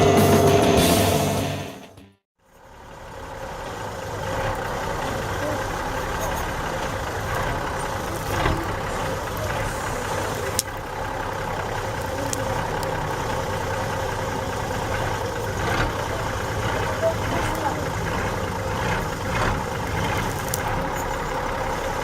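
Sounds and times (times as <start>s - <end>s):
diesel engine idling: 2.4s - 22.0s.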